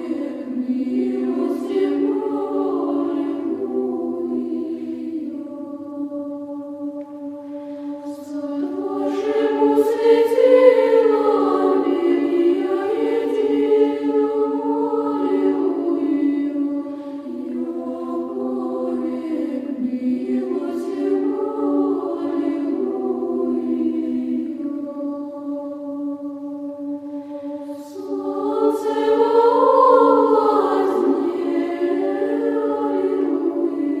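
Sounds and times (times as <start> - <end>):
choir chanting: 0.0 - 34.0.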